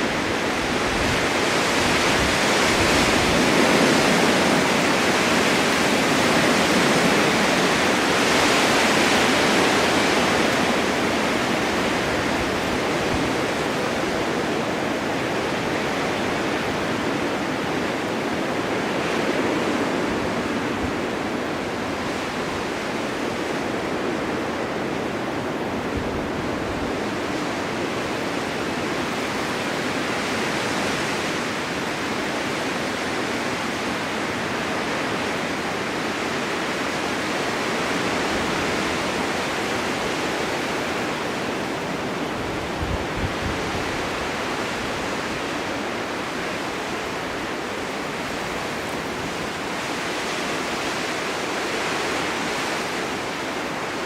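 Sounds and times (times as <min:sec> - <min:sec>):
blizzard wind rushing: 0:00.0 - 0:54.0.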